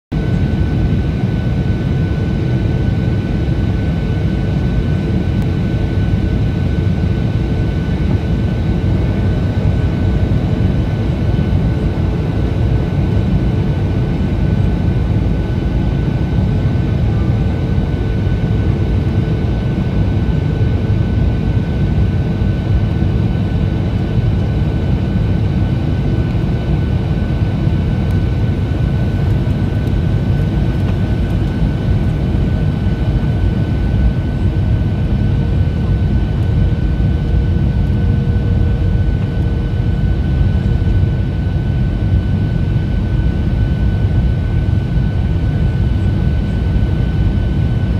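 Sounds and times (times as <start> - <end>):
airliner cabin engine noise: 0.1 - 47.9.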